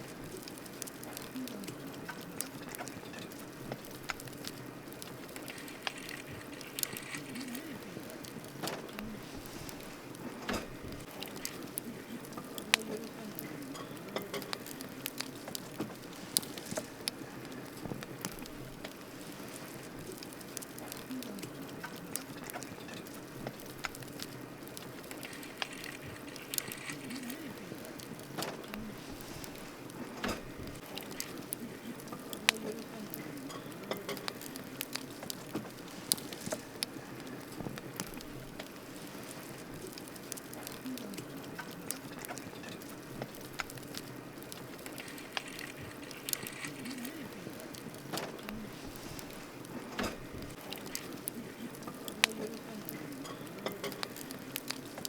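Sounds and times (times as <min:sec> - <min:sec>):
campfire crackling and hissing: 0:00.0 - 0:55.0.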